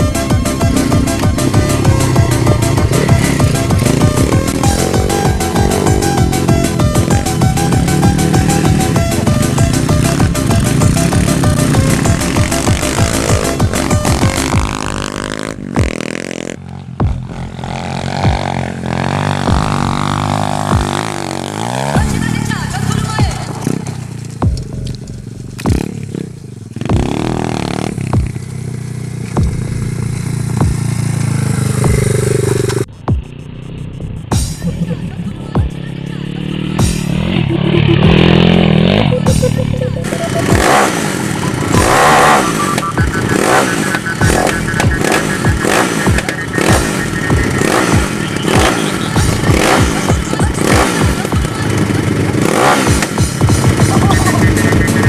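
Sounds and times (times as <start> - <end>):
music playing: 0.0 - 26.2, 29.3 - 55.0
motorbike engine running: 0.0 - 55.0.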